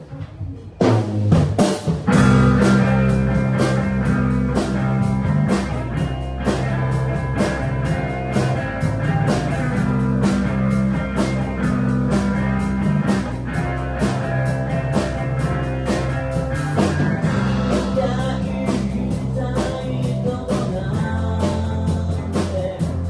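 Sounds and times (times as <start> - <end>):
rock band playing: 0.9 - 23.0.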